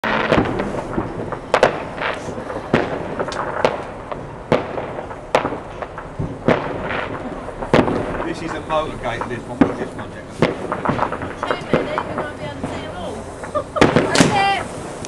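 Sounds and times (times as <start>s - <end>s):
fireworks bangs: 0.0s - 15.0s
small fireworks pops: 0.0s - 15.0s.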